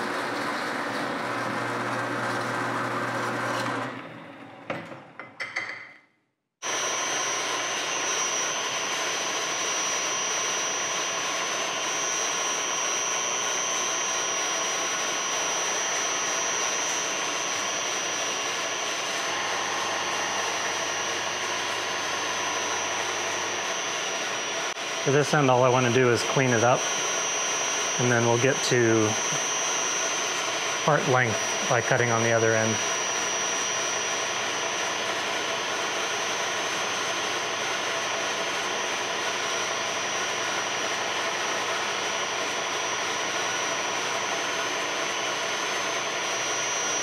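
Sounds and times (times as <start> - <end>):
band saw running: 0.0 - 4.4, 6.6 - 47.0
milling machine high whine: 6.6 - 47.0.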